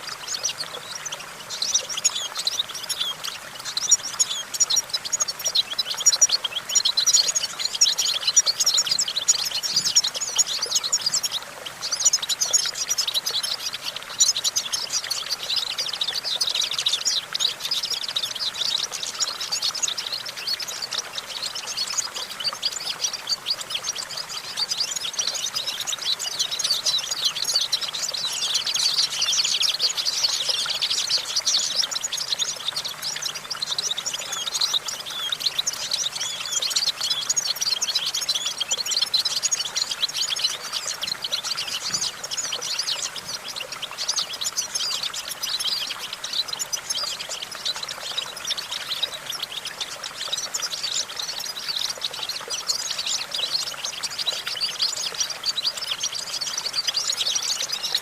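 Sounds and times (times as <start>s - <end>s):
finch twittering song: 0.0s - 58.0s.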